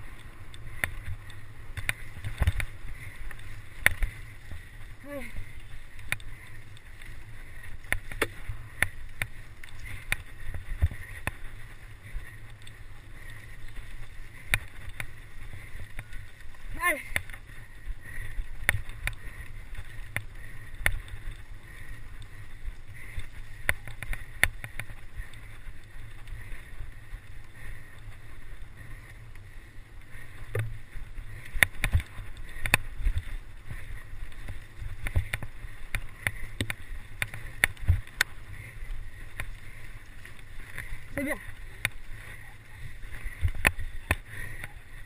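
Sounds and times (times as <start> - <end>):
mountain bike rattling: 0.0 - 45.0
wind and ground rumble: 0.0 - 45.0.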